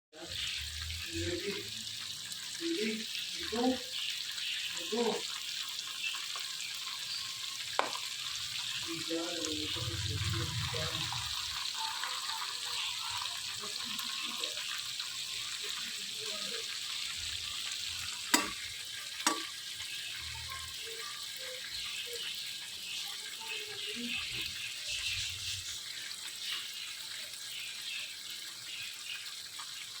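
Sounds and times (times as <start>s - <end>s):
chicken sizzling in hot oil: 0.1s - 30.0s.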